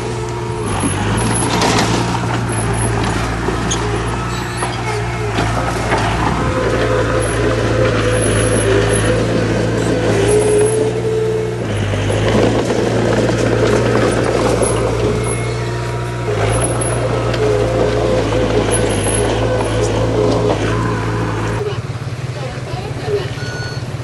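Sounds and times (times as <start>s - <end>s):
heavy machinery engine drone: 0.0s - 24.0s.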